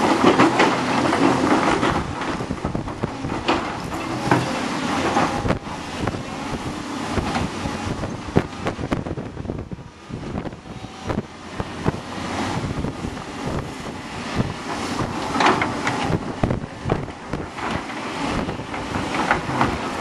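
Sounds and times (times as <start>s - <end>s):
excavator diesel engine: 0.0s - 20.0s
wind buffeting microphone: 0.8s - 20.0s.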